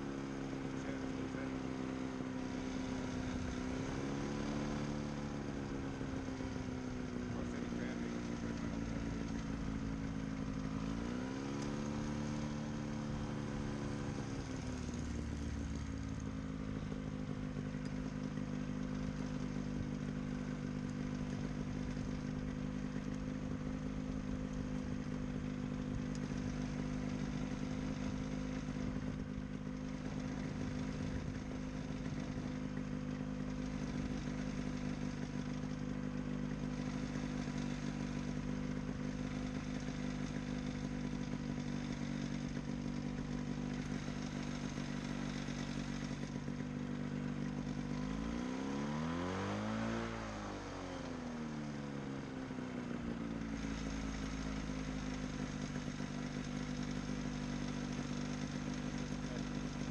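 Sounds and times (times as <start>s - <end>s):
ultralight engine and propeller: 0.0s - 59.9s.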